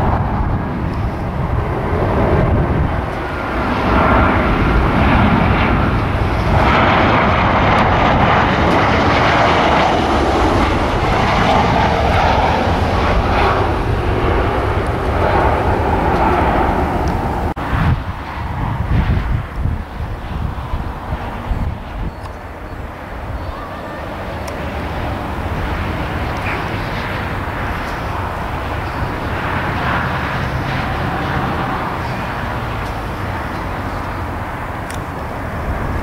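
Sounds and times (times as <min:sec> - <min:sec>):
jet airliner passing overhead: 0:00.0 - 0:36.0.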